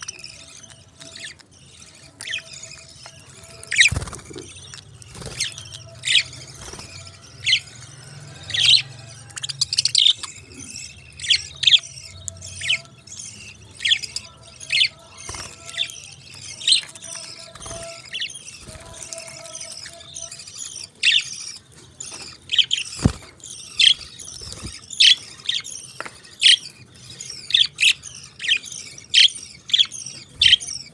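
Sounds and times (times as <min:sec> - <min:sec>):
parakeets chirping: 0:00.0 - 0:30.9.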